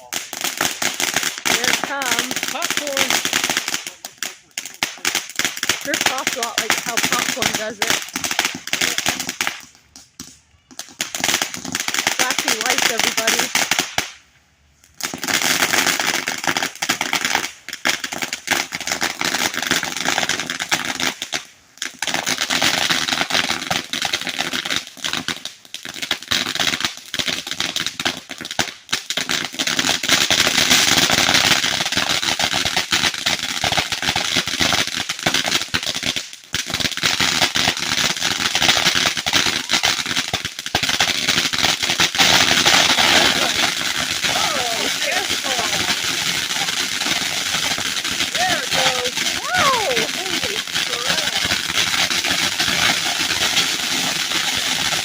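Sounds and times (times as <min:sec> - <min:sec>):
firework crackling and popping: 0:00.0 - 0:55.0.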